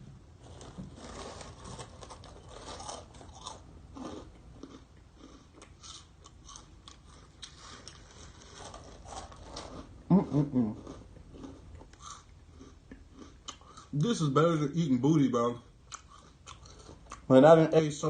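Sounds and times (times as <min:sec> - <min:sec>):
person chewing crunchy snacks: 0:00.5 - 0:14.0, 0:15.9 - 0:17.3.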